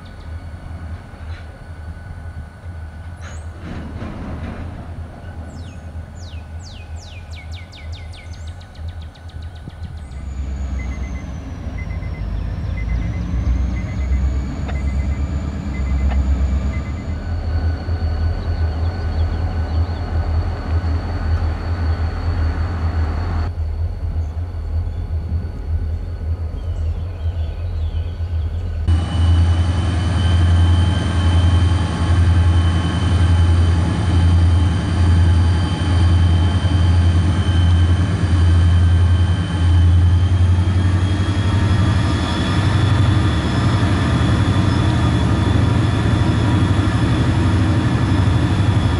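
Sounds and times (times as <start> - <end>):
locomotive engine throb: 0.0 - 48.9
steady high whine: 8.5 - 48.9.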